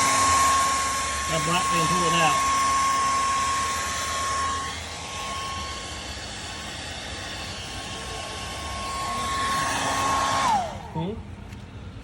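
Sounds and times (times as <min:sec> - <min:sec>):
electric polisher motor whine: 0:00.0 - 0:11.2.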